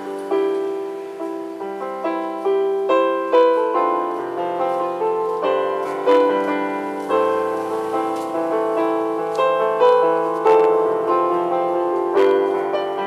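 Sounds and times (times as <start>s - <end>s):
electronic keyboard piano melody: 0.0s - 13.0s.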